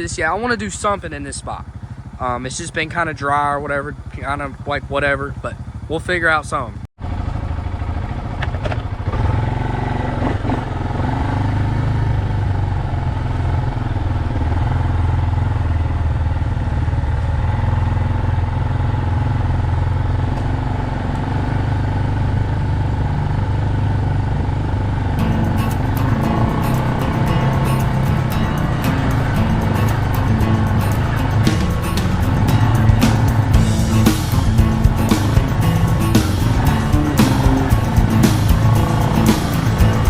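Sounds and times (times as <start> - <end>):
atv engine rumbling: 0.0 - 40.0.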